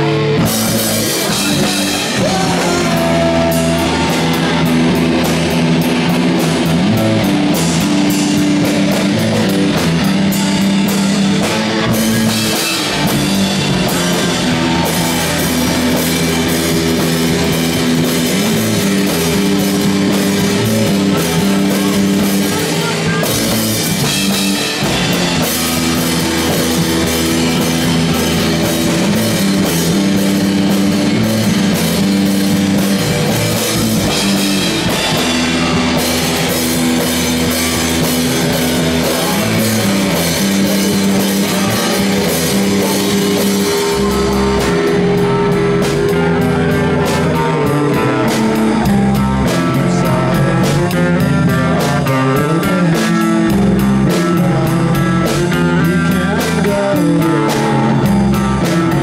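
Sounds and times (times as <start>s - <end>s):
drum kit beat: 0.0s - 59.0s
guitars playing loudly: 0.0s - 59.0s.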